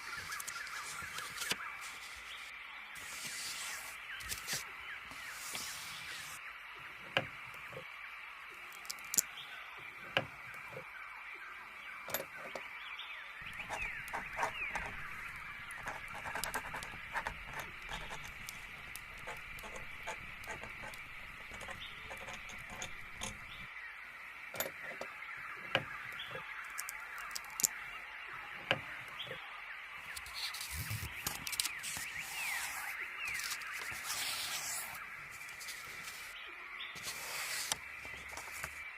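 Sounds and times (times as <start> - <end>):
small birds chirping: 0.0 - 7.9, 8.6 - 38.9.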